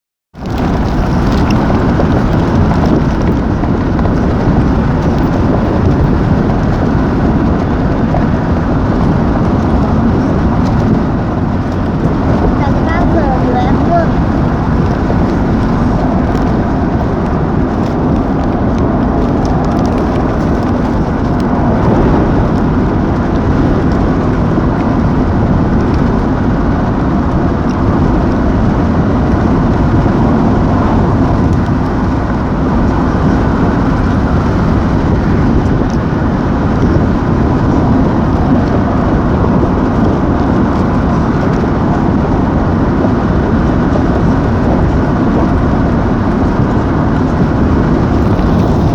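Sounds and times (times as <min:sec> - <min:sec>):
strong wind on microphone: 0:00.4 - 0:48.9.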